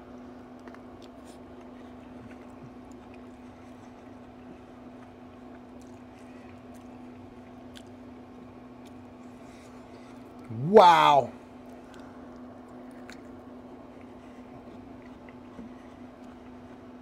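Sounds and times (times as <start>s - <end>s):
steady low hum: 0.0s - 17.0s
chewing and wet mouth clicks: 0.5s - 9.4s, 10.2s - 10.5s, 11.6s - 17.0s.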